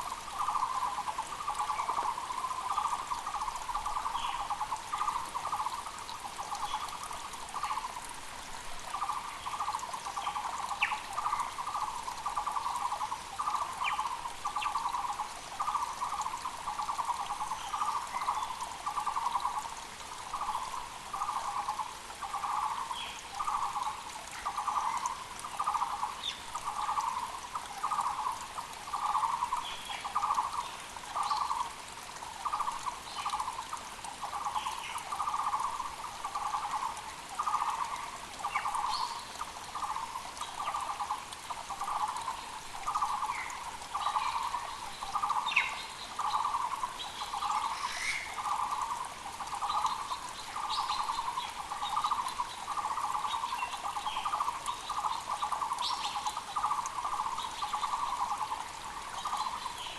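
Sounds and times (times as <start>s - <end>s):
mountain creek rushing: 0.0s - 59.9s
small birds chirping: 8.8s - 31.8s, 32.4s - 59.9s.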